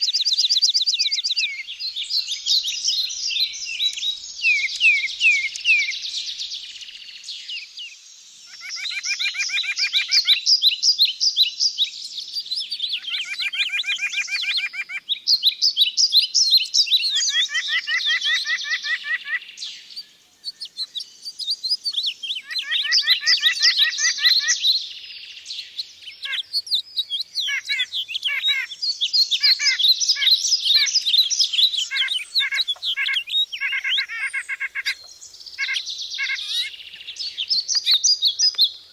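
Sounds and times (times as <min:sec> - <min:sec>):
chorus of bird chirps: 0:00.0 - 0:38.9.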